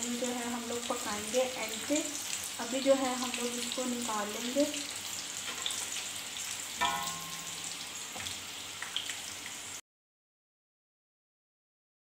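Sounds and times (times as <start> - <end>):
food sizzling in hot oil: 0.0 - 9.8.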